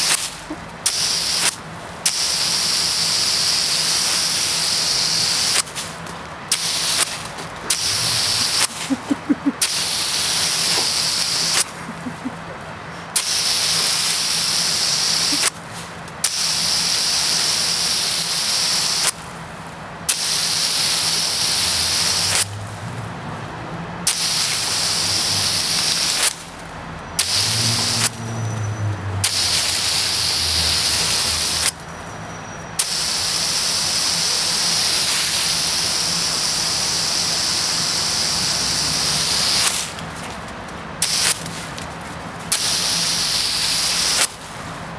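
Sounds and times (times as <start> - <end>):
garden hose water jet hissing: 0.0 - 23.1, 24.0 - 44.9.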